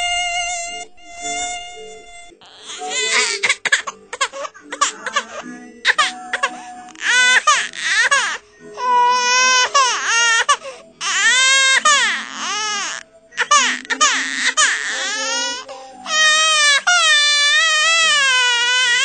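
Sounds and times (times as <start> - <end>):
baby crying: 0.0 - 19.0.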